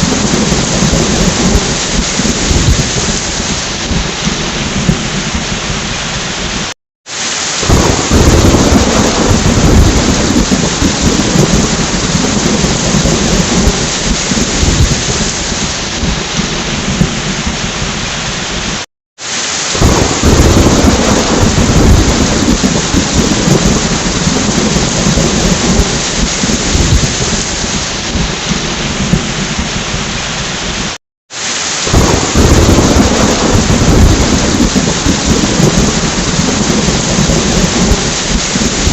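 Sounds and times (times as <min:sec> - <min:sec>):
rolling thunder: 0:00.0 - 0:06.7, 0:07.6 - 0:18.8, 0:19.7 - 0:31.0, 0:31.8 - 0:38.9
heavy rain: 0:00.0 - 0:38.9.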